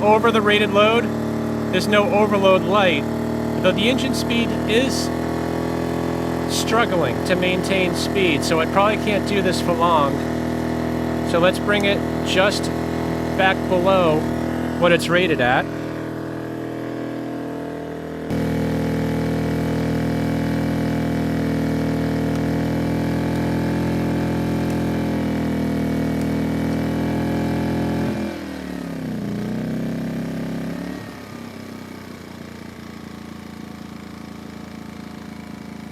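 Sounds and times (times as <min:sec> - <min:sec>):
generator engine running under load: 0:00.0 - 0:35.9.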